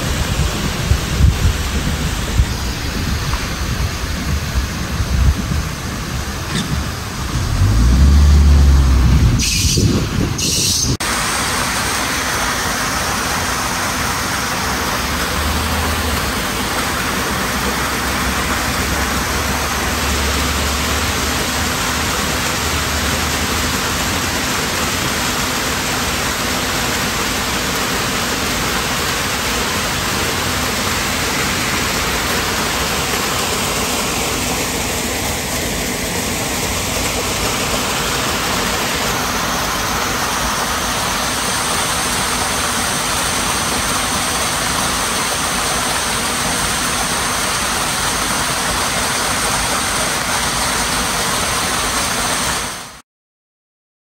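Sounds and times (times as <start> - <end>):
waterfall rushing and splashing: 0.0 - 53.0.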